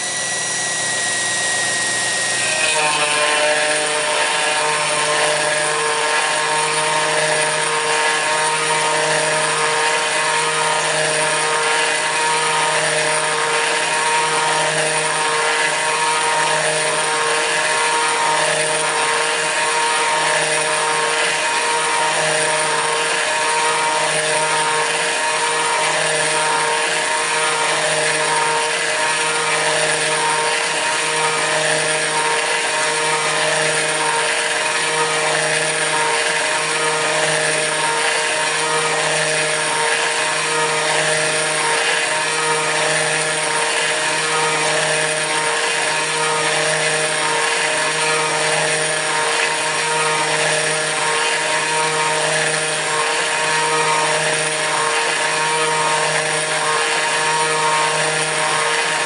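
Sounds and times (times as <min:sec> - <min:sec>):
router spindle high whine: 0:00.0 - 0:59.0.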